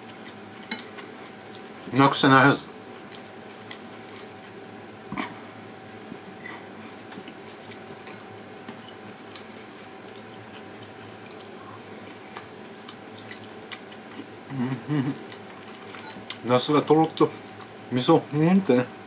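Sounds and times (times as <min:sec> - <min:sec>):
room hum with constant tone: 0:00.0 - 0:19.0.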